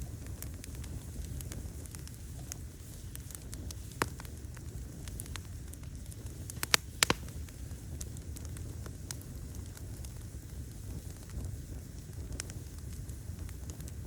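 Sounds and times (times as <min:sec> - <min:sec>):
fire crackling: 0:00.0 - 0:14.0
low steady rumble: 0:00.0 - 0:14.0.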